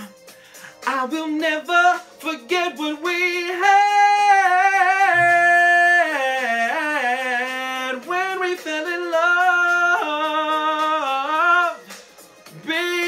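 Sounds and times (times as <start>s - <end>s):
man singing unaccompanied: 0.8s - 13.0s.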